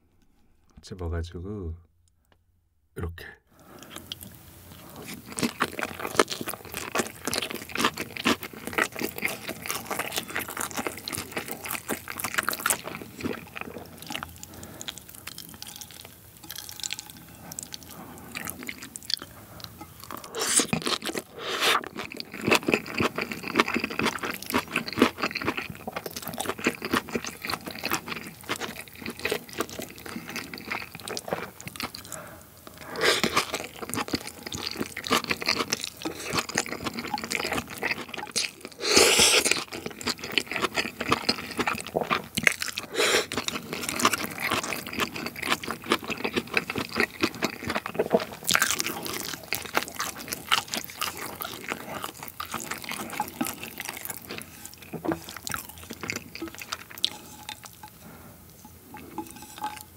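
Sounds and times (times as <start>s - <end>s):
close-miked chewing: 3.8s - 59.9s.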